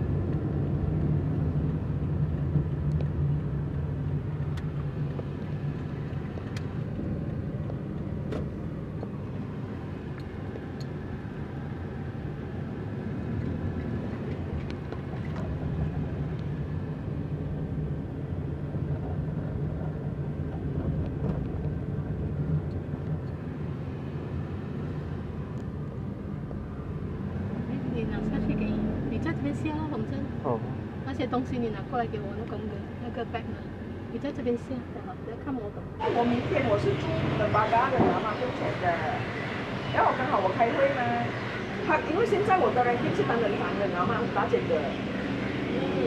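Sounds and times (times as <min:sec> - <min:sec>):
car cabin engine and tyre rumble: 0:00.0 - 0:46.0.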